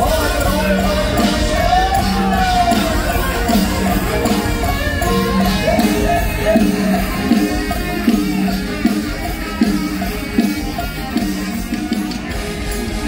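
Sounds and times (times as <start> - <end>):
live band music over sound system: 0.0 - 13.0.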